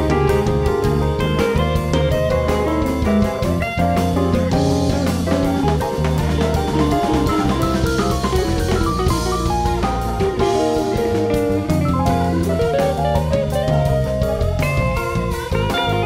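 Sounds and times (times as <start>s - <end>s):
bass guitar: 0.0s - 16.0s
drum kit beat: 0.0s - 16.0s
electric guitars: 0.0s - 16.0s.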